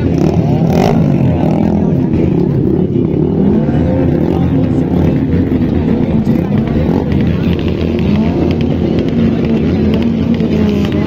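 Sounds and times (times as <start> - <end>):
cars and motorcycles revving: 0.0 - 11.0.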